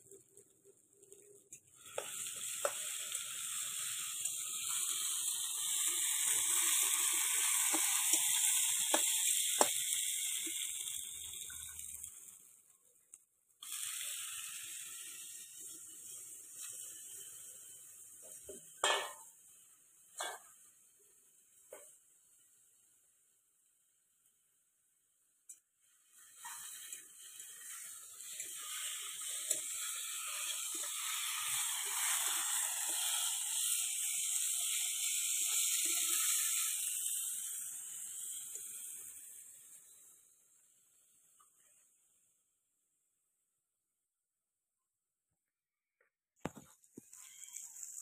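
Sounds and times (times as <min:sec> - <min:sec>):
food sizzling in hot oil: 0:00.0 - 0:12.7, 0:13.6 - 0:23.3, 0:25.8 - 0:42.2, 0:46.4 - 0:48.0.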